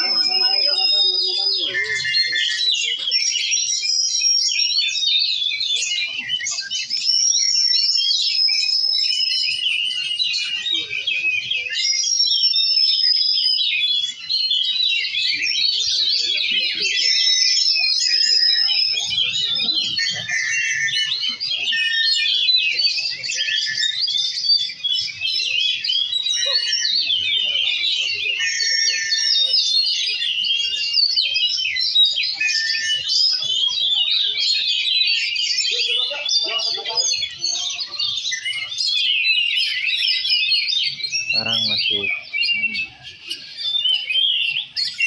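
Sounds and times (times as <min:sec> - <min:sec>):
songbirds chorus chirping and trilling: 0:00.0 - 0:45.0.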